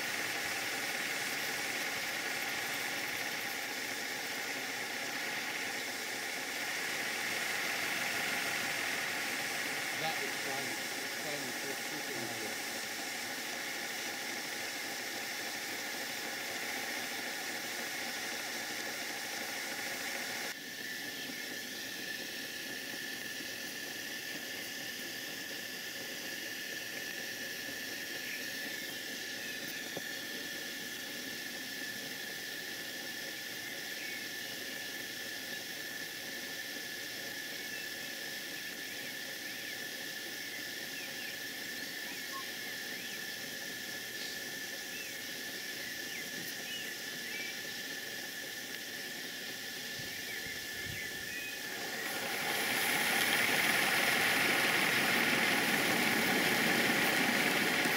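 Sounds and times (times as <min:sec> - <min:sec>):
steam locomotive hissing: 0:00.0 - 0:57.9.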